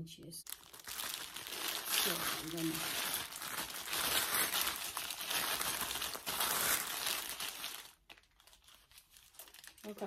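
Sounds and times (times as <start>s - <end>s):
plastic packaging crinkling: 0.4s - 10.0s.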